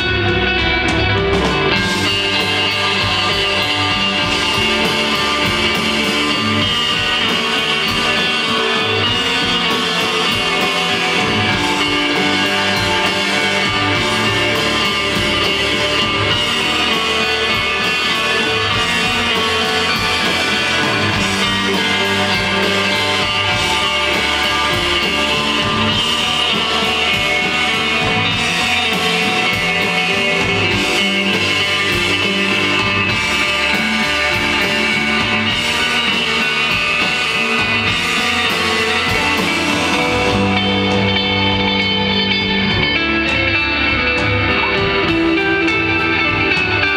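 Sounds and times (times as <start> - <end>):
drum kit: 0.0 - 46.9
electric bass: 0.0 - 46.9
electric guitar: 0.0 - 46.9.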